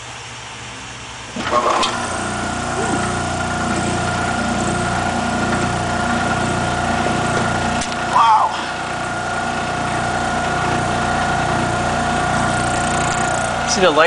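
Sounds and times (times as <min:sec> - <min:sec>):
washing machine motor humming: 0:00.2 - 0:14.0
motor starting clatter and click: 0:01.3 - 0:14.0.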